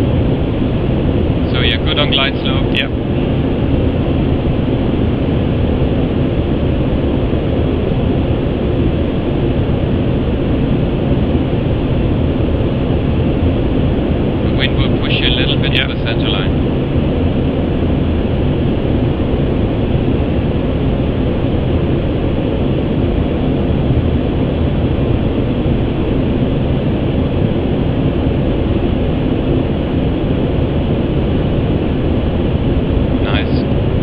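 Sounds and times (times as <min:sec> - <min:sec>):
aircraft cockpit airflow noise: 0:00.0 - 0:34.0.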